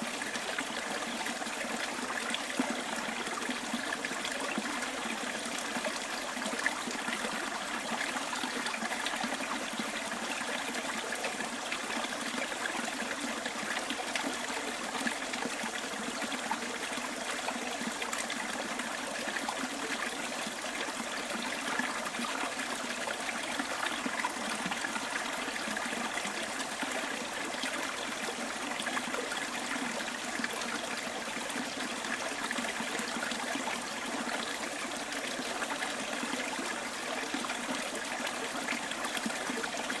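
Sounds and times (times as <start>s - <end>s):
stream babbling over stones: 0.0s - 40.0s.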